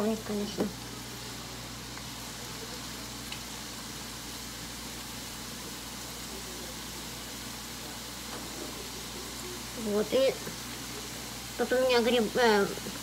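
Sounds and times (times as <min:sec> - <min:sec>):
onion frying in a pan: 0:00.0 - 0:13.0.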